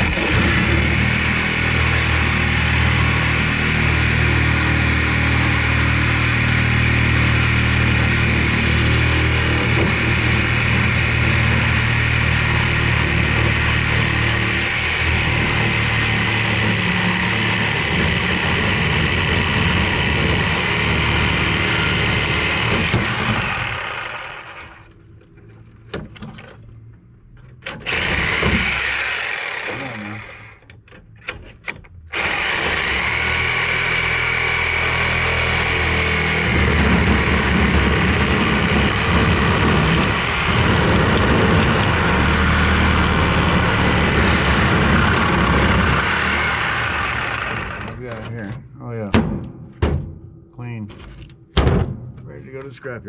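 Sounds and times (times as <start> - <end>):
power tool running: 0.0 - 25.0, 27.7 - 30.7, 32.1 - 48.4.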